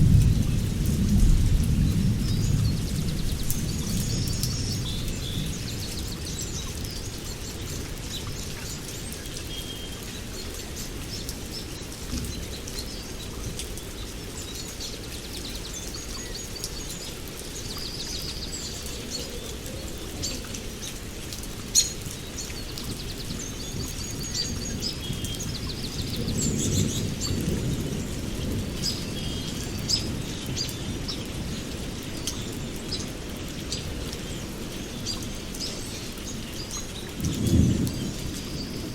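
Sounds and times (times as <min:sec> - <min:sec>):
songbirds chirping and trilling: 0:00.1 - 0:38.9.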